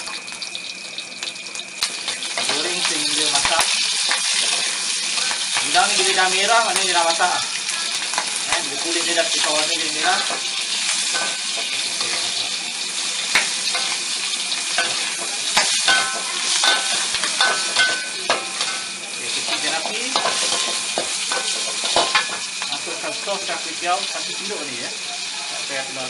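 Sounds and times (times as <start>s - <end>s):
prawns sizzling in hot oil: 0.0s - 26.0s.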